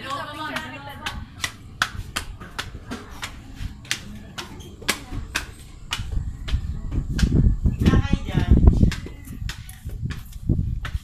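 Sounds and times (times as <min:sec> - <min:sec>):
low handling rumble: 0:00.0 - 0:10.8
footsteps on hard floor: 0:01.0 - 0:11.0.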